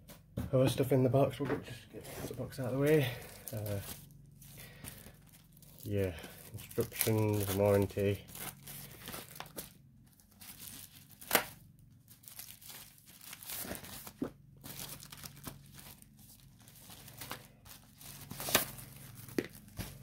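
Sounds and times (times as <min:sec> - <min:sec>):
paper rustling and crinkling: 0:02.0 - 0:20.0
sharp paper crackle: 0:02.8 - 0:20.0.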